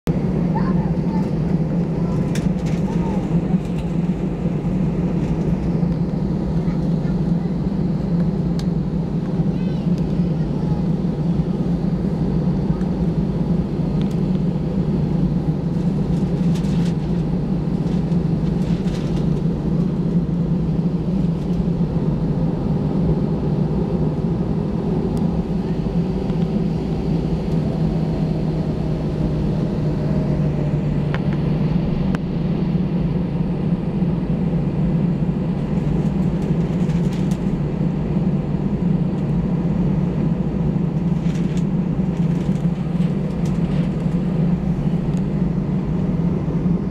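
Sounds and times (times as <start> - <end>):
jet cabin rumble: 0.1 - 46.9.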